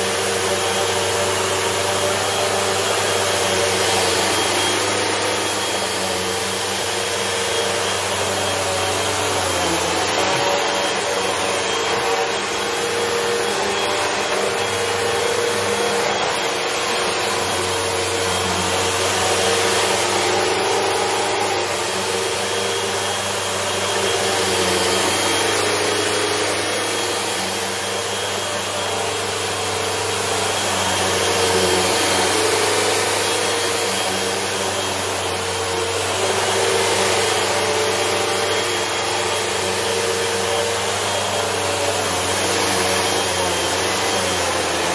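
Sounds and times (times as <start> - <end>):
vacuum cleaner running on rug: 0.0 - 44.9.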